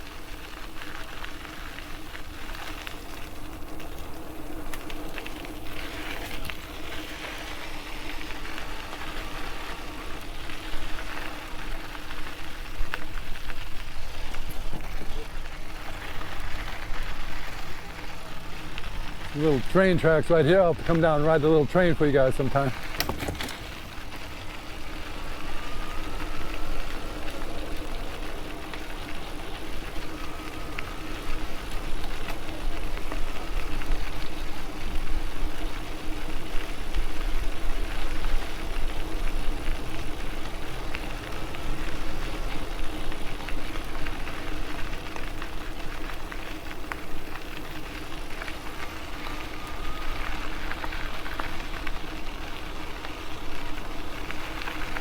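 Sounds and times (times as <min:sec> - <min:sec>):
bike tyres rolling on trail: 0:00.0 - 0:55.0
wind: 0:00.0 - 0:55.0.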